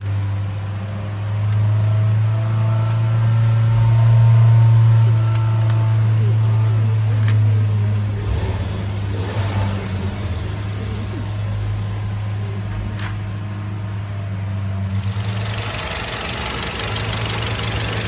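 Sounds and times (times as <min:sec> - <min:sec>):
car engine idling unevenly: 0:00.0 - 0:18.0.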